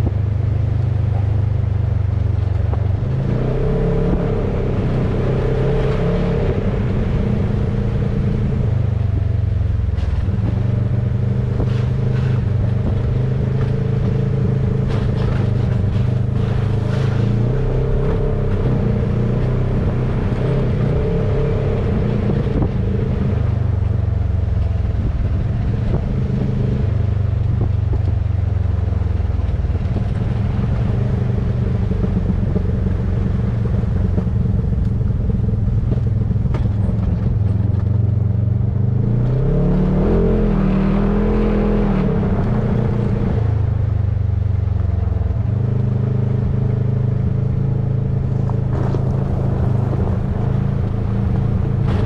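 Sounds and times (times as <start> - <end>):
off-road vehicle engine running: 0.0 - 52.0.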